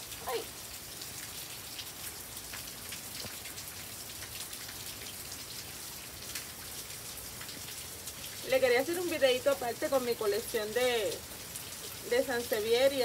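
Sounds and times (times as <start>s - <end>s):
raindrops ticking close by: 0.0s - 13.0s
steady rain falling: 0.0s - 13.0s.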